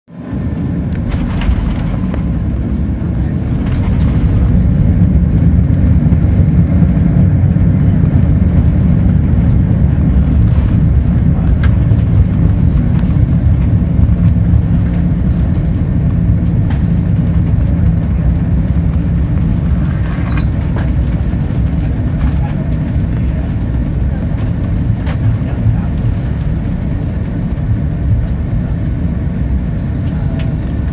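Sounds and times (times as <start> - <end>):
airliner cabin rumble: 0.1 - 30.9.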